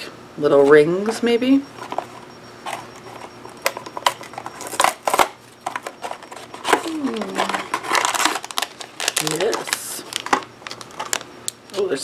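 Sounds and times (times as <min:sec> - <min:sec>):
packaging rustling and crinkling: 0:01.8 - 0:12.0.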